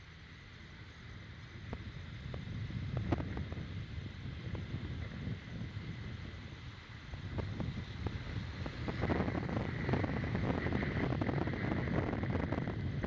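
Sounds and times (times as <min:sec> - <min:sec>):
tyre hiss on wet road: 0:00.0 - 0:13.0
wind buffeting microphone: 0:01.3 - 0:13.0.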